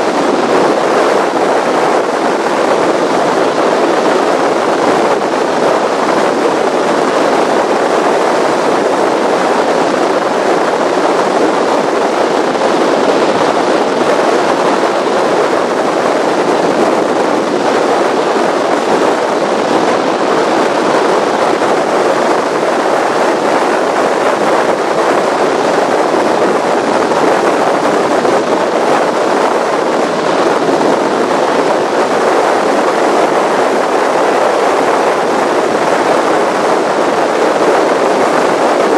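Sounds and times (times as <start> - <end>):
powerboat wind and water rush: 0.0 - 38.9.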